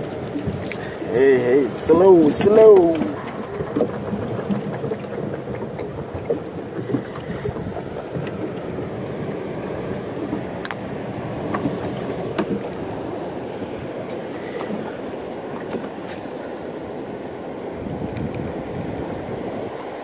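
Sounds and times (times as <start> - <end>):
boat rumbling on water: 0.0 - 20.0.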